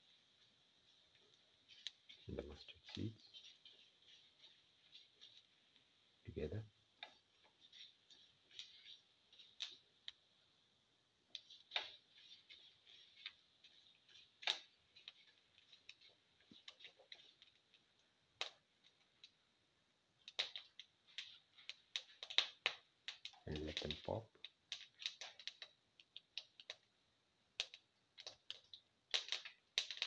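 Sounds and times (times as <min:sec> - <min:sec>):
seeds popping in hot oil: 0:00.0 - 0:30.0.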